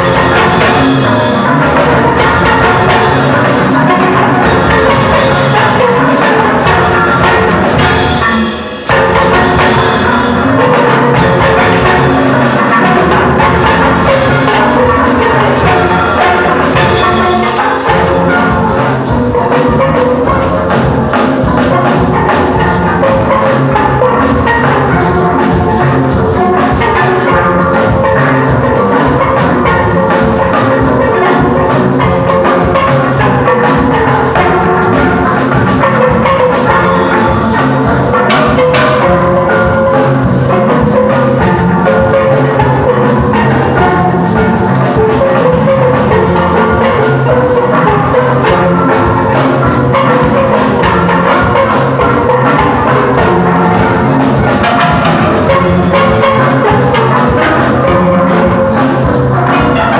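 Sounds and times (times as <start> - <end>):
drum kit beat: 0.0 - 59.9
steel band playing: 0.0 - 59.9.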